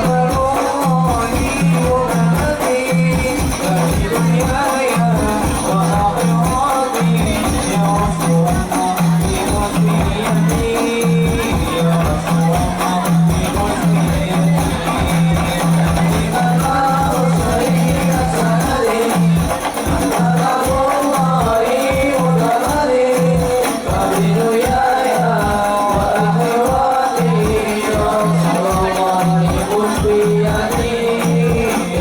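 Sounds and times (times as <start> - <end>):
devotional singing: 0.0 - 32.0
jingling hand percussion: 0.0 - 32.0
percussion rhythm: 0.0 - 32.0.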